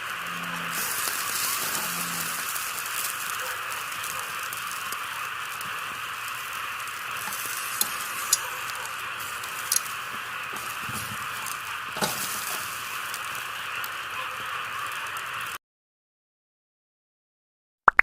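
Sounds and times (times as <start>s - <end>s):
steady hiss: 0.0s - 15.6s.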